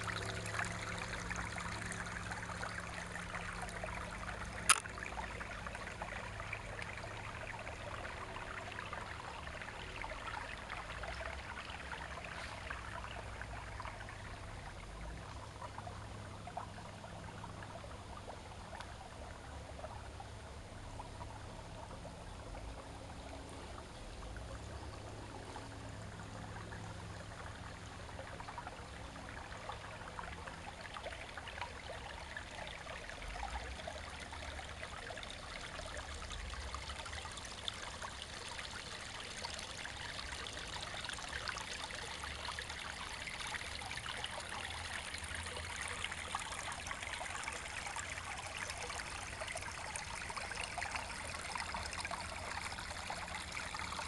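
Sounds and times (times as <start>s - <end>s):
creek running over rocks: 0.0s - 54.0s.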